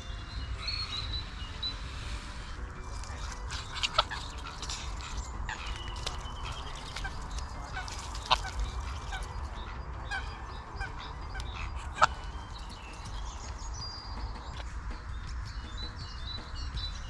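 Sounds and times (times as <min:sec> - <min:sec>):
geese honking: 0:00.0 - 0:13.8
soft bird calls: 0:00.0 - 0:17.0
steady low rumble: 0:00.0 - 0:17.0.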